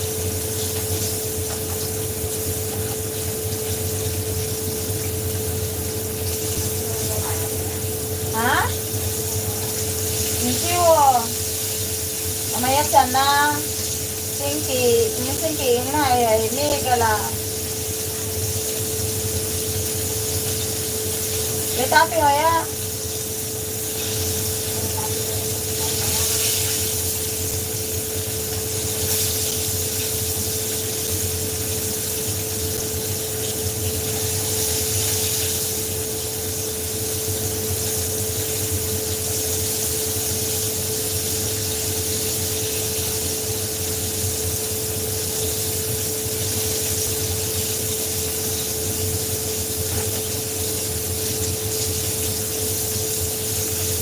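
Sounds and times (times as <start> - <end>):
chicken sizzling in hot oil: 0.0 - 54.0
kitchen hum: 0.0 - 54.0.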